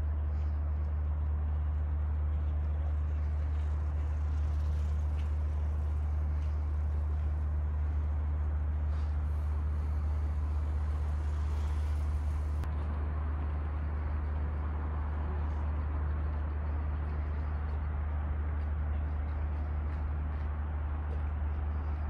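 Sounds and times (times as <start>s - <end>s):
deep hum: 0.0s - 22.0s
road traffic rumble: 0.0s - 22.0s.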